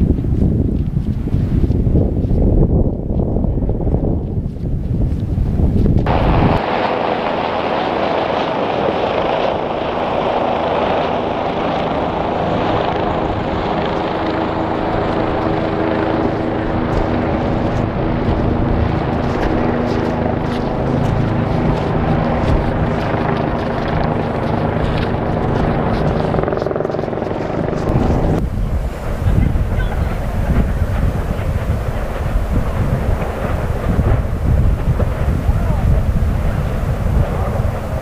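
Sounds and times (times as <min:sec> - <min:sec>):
helicopter droning roar: 0:00.0 - 0:38.0
low hum: 0:00.0 - 0:38.0.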